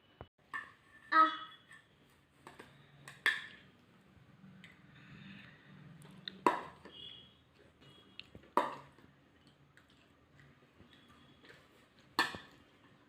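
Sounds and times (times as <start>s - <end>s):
faint eating sounds: 0.6s - 13.0s.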